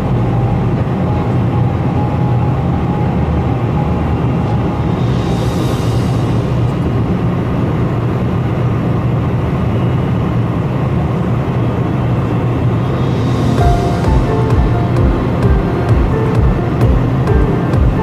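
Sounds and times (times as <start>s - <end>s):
jet engine rumble in cabin: 0.0s - 18.0s.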